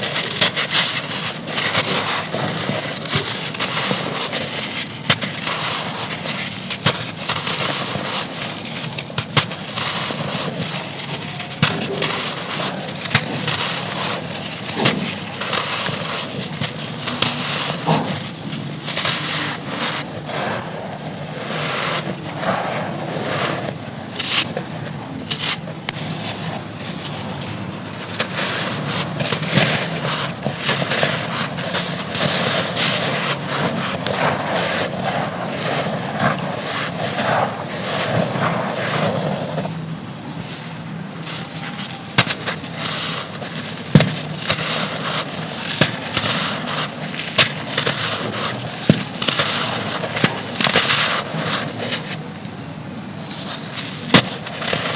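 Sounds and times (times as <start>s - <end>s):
dirt crumbling and crunching: 0.0s - 54.9s.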